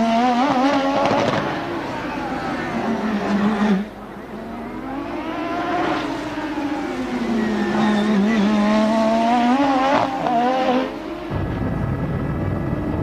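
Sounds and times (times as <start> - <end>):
racing car engine high revs: 0.0 - 11.4.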